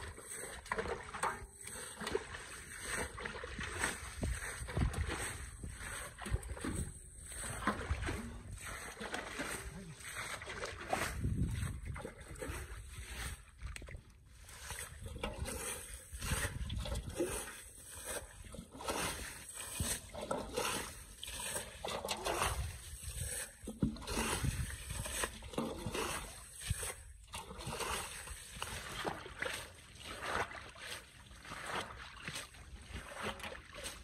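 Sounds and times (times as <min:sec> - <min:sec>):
water splashing: 0:00.0 - 0:34.0.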